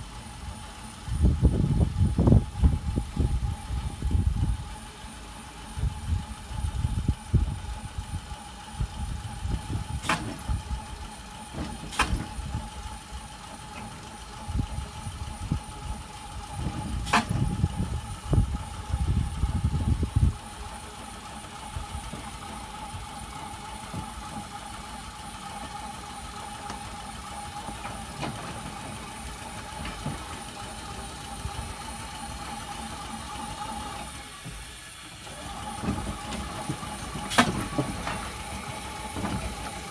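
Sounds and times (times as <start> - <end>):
constant high whine: 0.0 - 39.9
rail car rumbling on track: 0.0 - 39.9.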